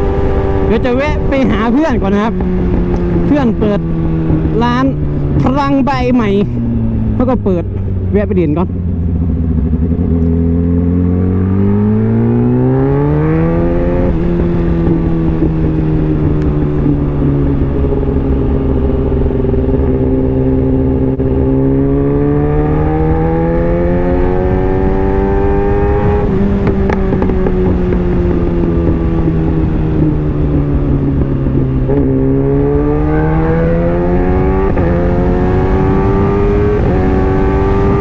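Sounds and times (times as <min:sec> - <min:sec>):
motorcycle engine revving: 0:00.0 - 0:38.0
wind rushing over microphone: 0:00.0 - 0:38.0.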